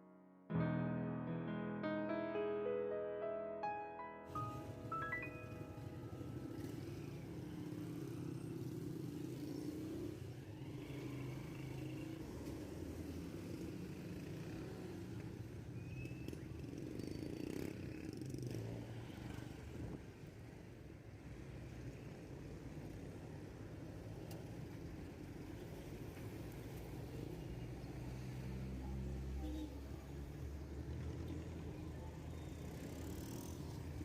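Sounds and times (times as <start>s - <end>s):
road traffic rumble: 4.3s - 34.0s.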